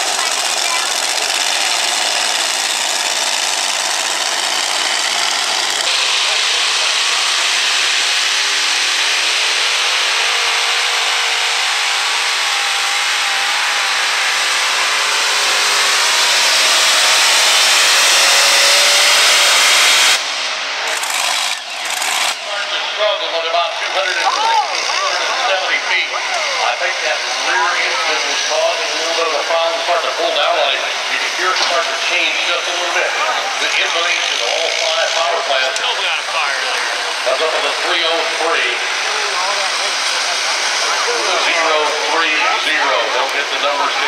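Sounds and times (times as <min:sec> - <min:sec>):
tractor engine roaring: 0:00.0 - 0:44.0.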